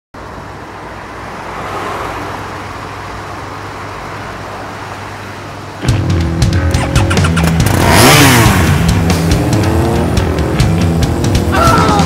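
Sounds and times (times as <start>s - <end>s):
road traffic noise: 0.1s - 12.0s.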